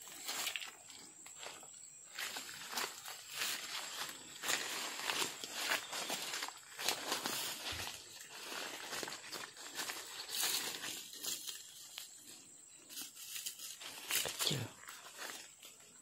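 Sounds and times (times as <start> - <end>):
dry leaves crackling underfoot: 0.0 - 16.0.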